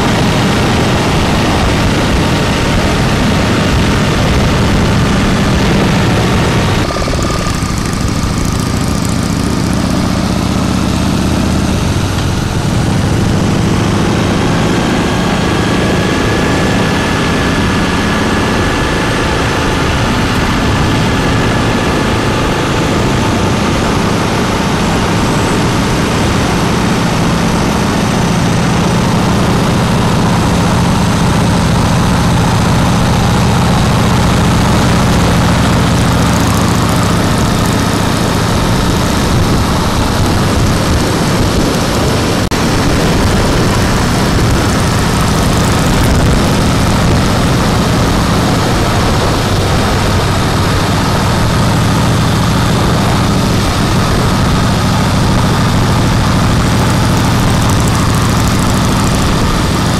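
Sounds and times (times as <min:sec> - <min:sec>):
motorcycle engine cruising: 0:00.0 - 0:59.9
road and wind noise: 0:00.0 - 0:59.9.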